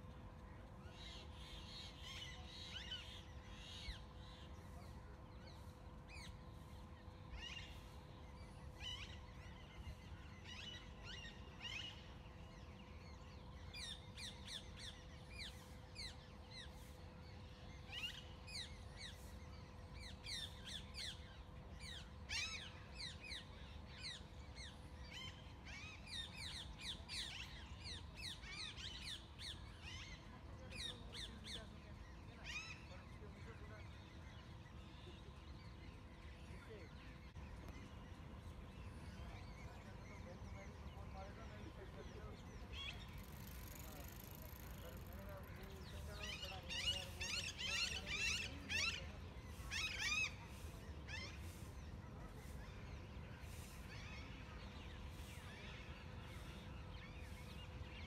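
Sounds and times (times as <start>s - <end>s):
faint steady hum: 0.0s - 58.0s
small birds chirping: 0.0s - 58.0s.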